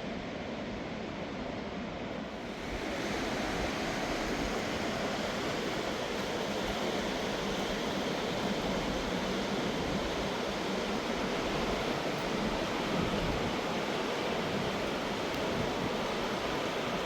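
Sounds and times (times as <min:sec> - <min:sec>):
river rushing: 0:02.4 - 0:17.0.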